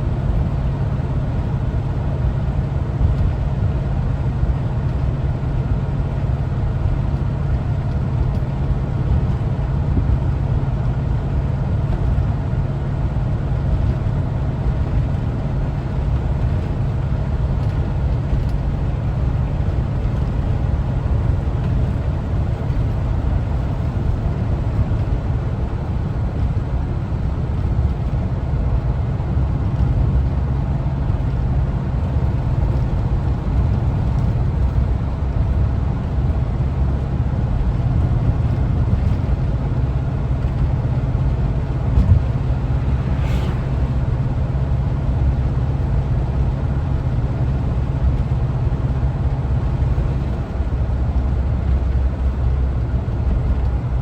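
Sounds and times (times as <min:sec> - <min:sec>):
road and tyre noise: 0:00.0 - 0:54.0
van engine low rumble: 0:00.0 - 0:54.0.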